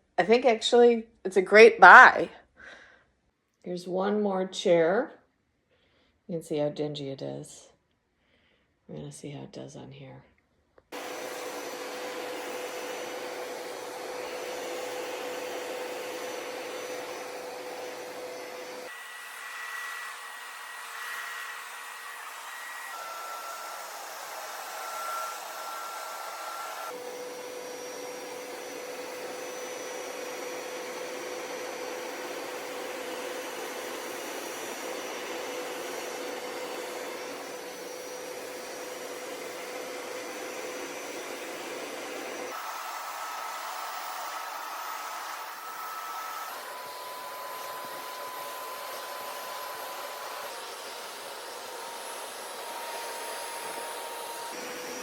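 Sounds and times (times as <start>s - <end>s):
carpet cleaner motor whining: 11.0s - 55.0s.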